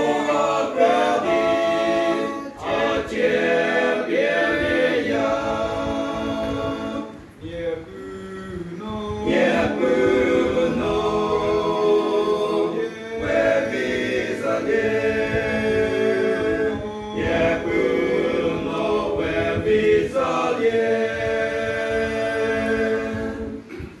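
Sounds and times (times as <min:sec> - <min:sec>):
male choir singing a cappella: 0:00.0 - 0:24.0.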